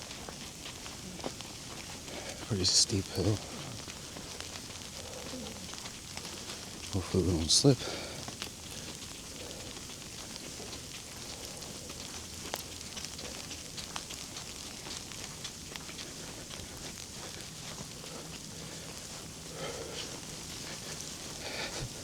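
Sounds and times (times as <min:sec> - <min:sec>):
footsteps in snow: 0:00.0 - 0:22.0.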